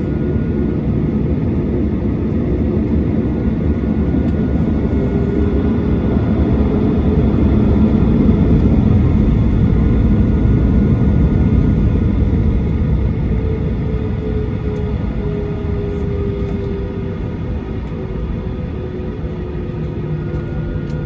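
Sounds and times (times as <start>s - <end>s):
jet engine rumble in cabin: 0.0s - 21.0s.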